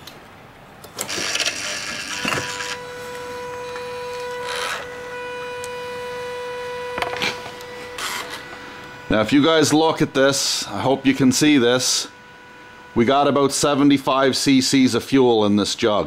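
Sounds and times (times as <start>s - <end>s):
fuel pump motor whine: 1.0s - 16.0s.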